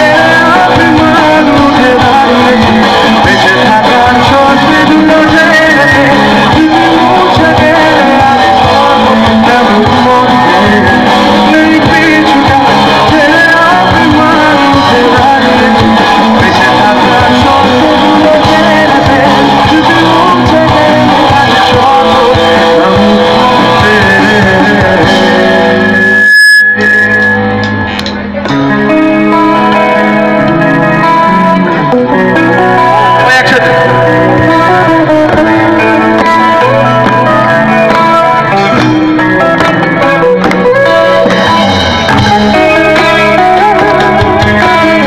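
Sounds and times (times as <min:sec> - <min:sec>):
person singing: 0:00.0 - 0:26.0, 0:29.3 - 0:41.5, 0:42.1 - 0:45.0
live rock band: 0:00.0 - 0:45.0.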